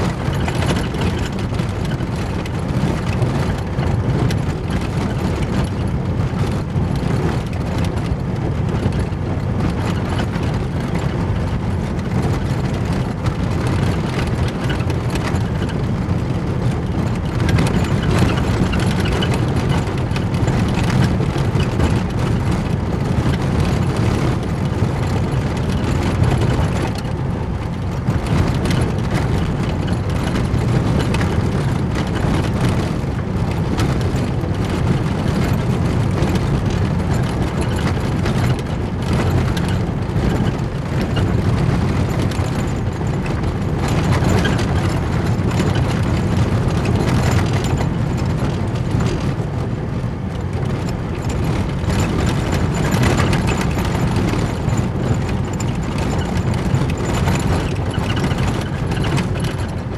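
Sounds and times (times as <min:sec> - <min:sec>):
tyres rumbling on gravel: 0:00.0 - 0:59.9.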